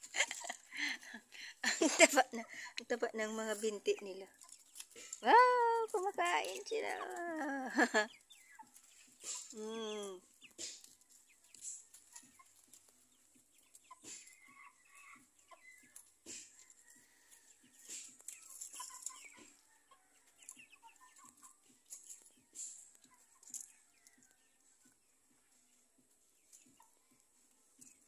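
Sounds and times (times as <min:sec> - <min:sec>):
chickens clucking: 0:00.0 - 0:28.0
chickens pecking and scratching: 0:00.0 - 0:28.0.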